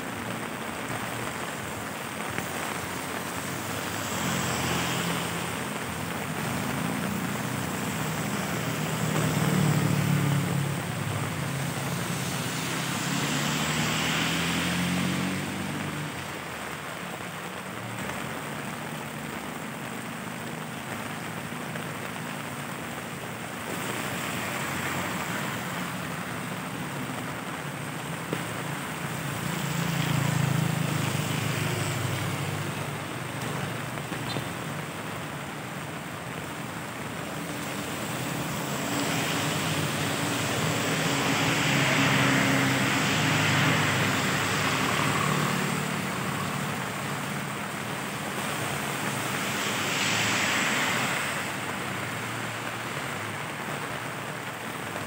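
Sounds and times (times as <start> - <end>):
rain on pavement: 0.0 - 55.0
vehicles passing on wet road: 0.0 - 55.0.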